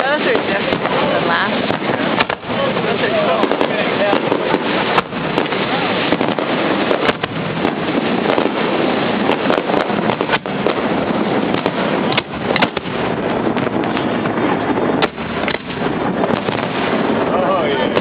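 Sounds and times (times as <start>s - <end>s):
fireworks bangs and crackles: 0.0s - 18.0s
rumbling roar of fireworks: 0.0s - 18.0s.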